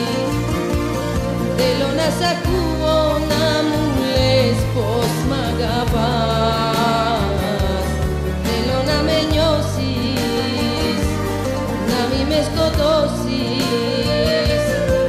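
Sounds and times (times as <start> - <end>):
instrumental backing with bass: 0.0 - 15.0
woman singing: 0.0 - 15.0.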